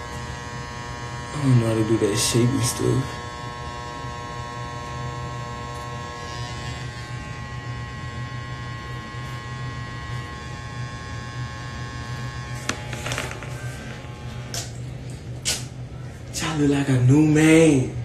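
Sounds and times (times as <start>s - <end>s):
hair clippers buzzing: 0.0s - 15.7s.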